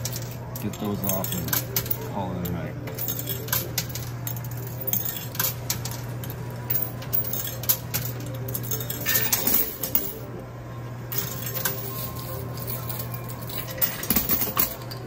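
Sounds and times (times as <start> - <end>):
coins clinking: 0.0 - 10.4, 11.1 - 15.0
steady low hum: 0.0 - 15.0.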